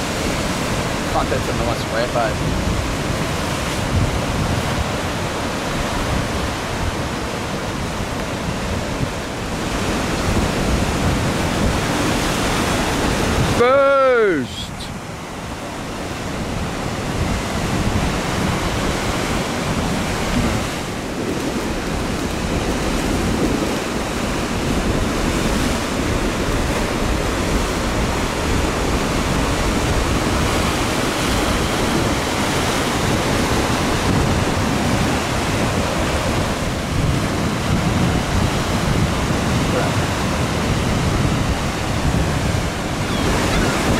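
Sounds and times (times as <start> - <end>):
ocean surf breaking: 0.0 - 43.9
wind rumbling on microphone: 0.0 - 43.9.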